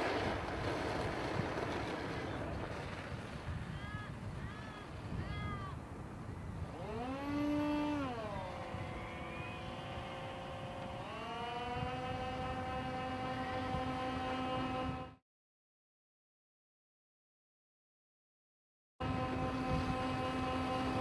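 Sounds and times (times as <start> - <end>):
electric ducted fans whining: 0.0 - 15.2, 19.0 - 21.0.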